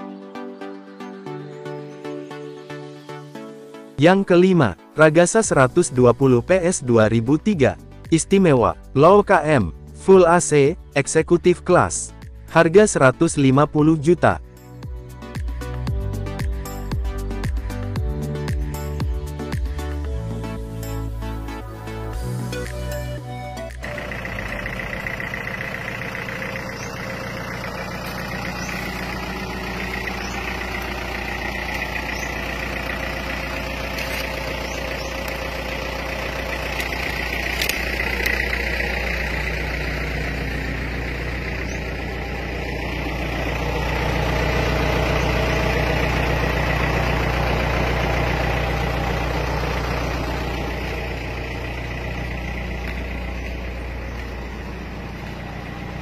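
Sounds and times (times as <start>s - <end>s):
diesel bus engine idling: 5.5s - 56.0s.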